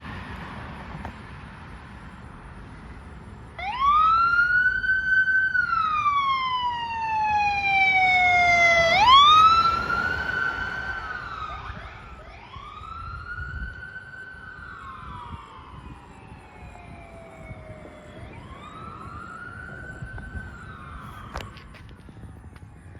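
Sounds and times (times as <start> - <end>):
low hum of traffic: 0.0 - 22.9
fire engine siren wailing: 3.6 - 22.9.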